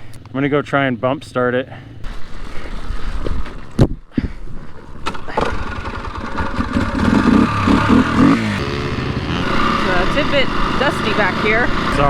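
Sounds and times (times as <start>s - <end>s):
dirt bike engine running: 0.0s - 3.8s, 4.4s - 12.0s
dirt bike clunks: 1.8s - 12.0s.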